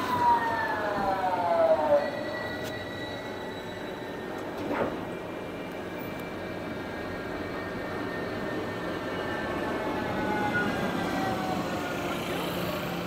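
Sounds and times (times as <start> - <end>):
electric tram whine: 0.0 - 13.0
street noise: 0.0 - 13.0.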